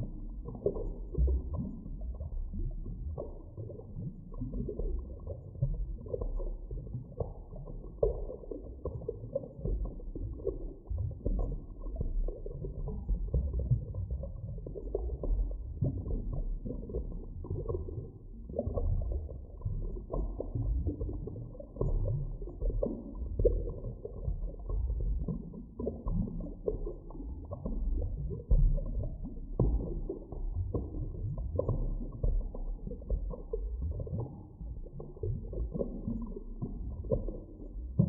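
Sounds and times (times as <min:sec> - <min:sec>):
deep underwater rumble: 0:00.0 - 0:38.0
soft pops and gurgles: 0:00.0 - 0:38.0.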